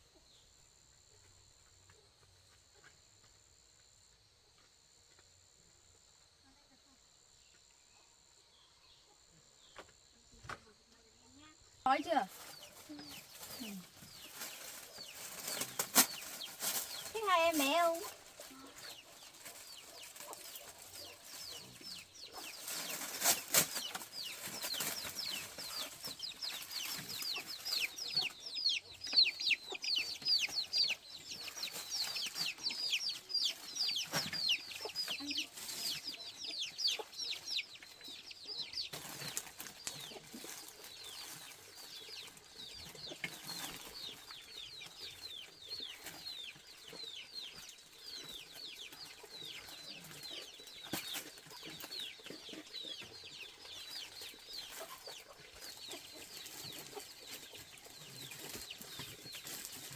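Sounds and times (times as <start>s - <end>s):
chicks peeping: 11.9s - 59.9s.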